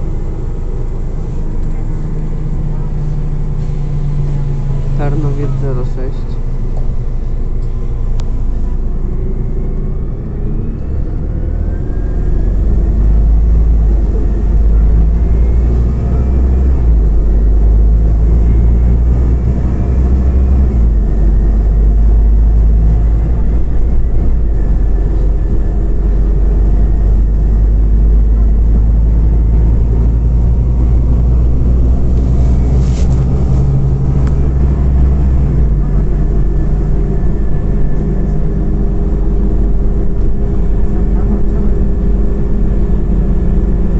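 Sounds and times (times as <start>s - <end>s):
bus engine and road rumble: 0.0s - 43.9s
whine rising in pitch: 8.1s - 43.9s.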